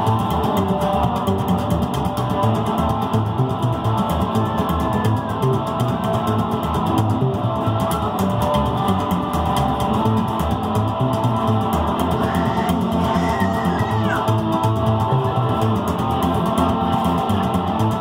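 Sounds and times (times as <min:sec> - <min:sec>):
electric guitar playing: 0:00.0 - 0:18.0
plucked double bass: 0:00.0 - 0:18.0.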